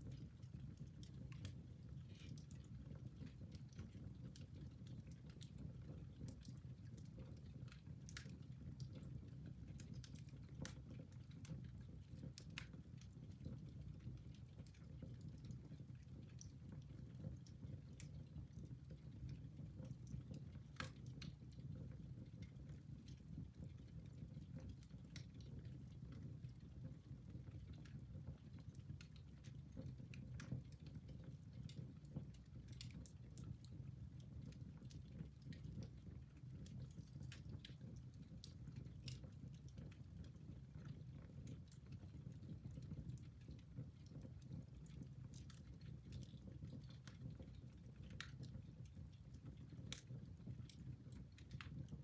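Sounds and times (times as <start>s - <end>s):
fire crackling and popping: 0.0s - 52.0s
low rumble of flames: 0.0s - 52.0s.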